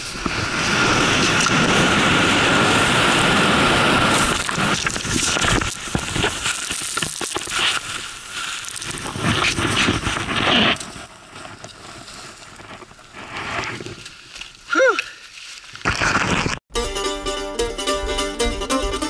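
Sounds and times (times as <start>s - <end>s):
skis turning through powder snow: 0.0s - 16.6s.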